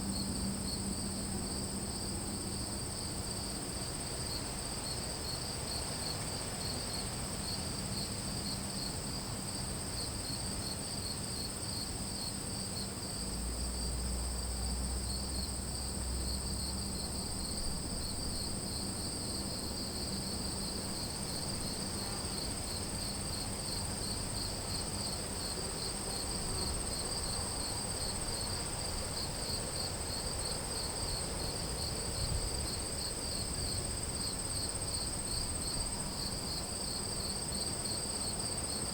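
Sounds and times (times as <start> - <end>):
crickets trilling: 0.0 - 38.9
fast pulsing cricket chirp: 0.0 - 38.9.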